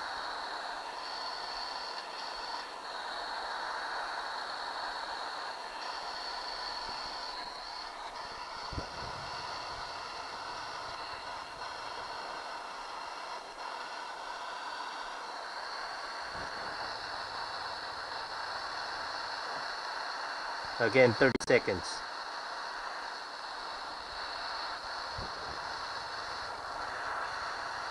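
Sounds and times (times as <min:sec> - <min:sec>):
gas torch flame hissing: 0:00.0 - 0:27.9.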